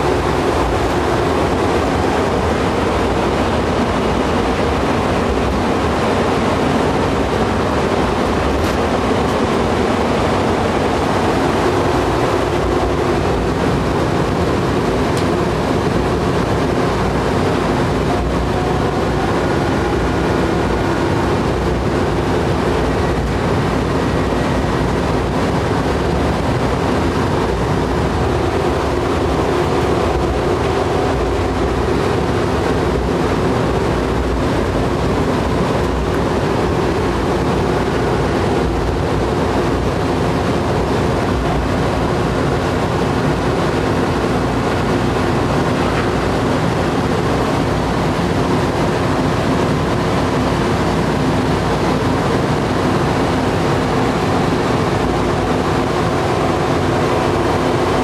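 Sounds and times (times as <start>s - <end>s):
rail shuttle car rumble: 0.0s - 58.0s.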